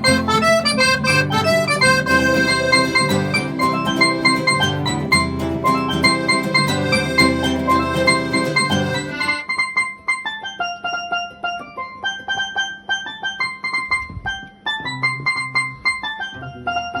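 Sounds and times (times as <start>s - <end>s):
electric piano playing: 0.0s - 16.4s.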